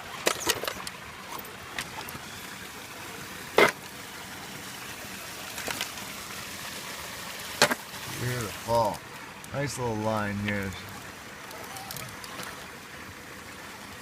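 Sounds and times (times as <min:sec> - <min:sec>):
creek water running: 0:00.0 - 0:14.0.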